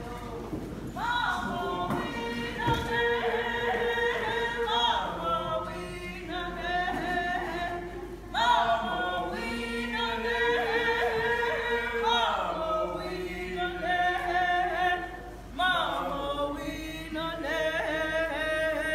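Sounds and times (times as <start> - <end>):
group singing without instruments: 1.0 - 18.9.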